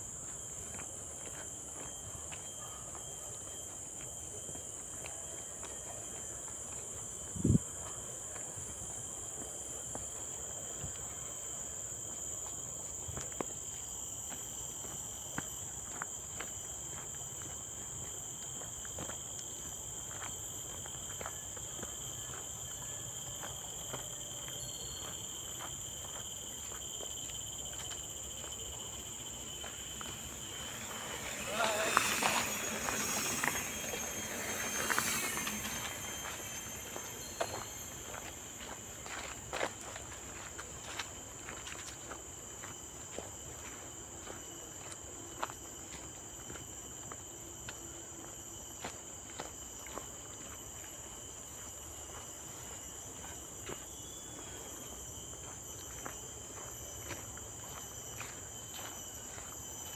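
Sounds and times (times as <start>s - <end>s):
footsteps on dirt trail: 0.0s - 59.9s
insects droning: 0.0s - 59.9s.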